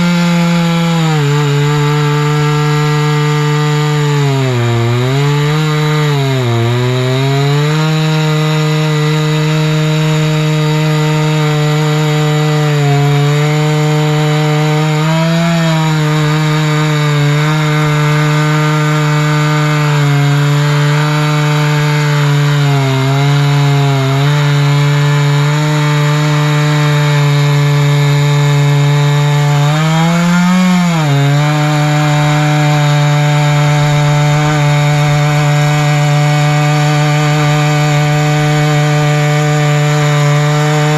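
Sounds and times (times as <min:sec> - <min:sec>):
chainsaw cutting through log: 0:00.0 - 0:40.9.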